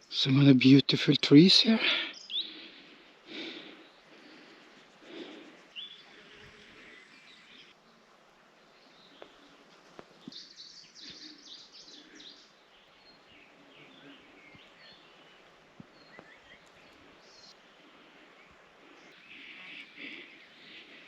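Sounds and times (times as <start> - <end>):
background hiss: 0.0 - 21.0
birds chirping: 0.0 - 21.0.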